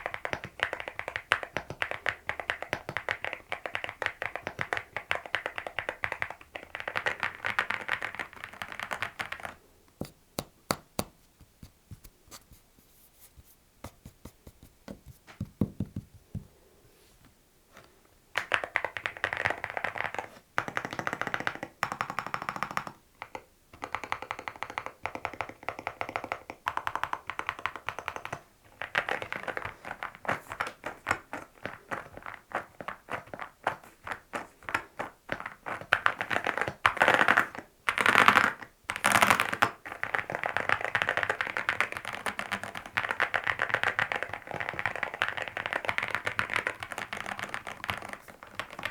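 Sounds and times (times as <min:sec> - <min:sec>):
mechanical keyboard typing: 0:00.0 - 0:09.6, 0:18.4 - 0:48.9.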